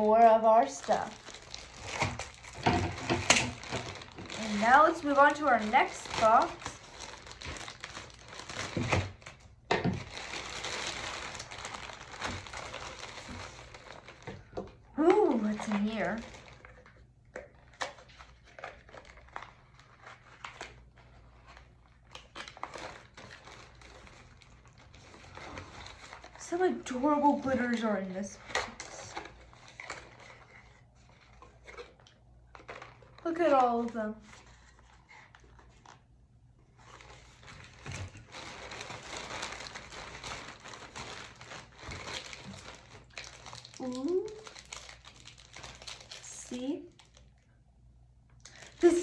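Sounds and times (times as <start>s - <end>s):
plastic bag crinkling: 0.0s - 47.5s, 48.3s - 49.0s.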